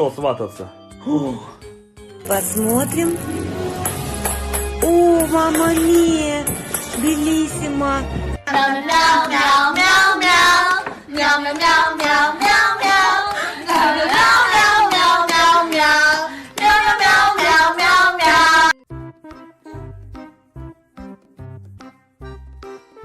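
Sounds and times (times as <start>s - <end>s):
music: 0.0s - 23.0s.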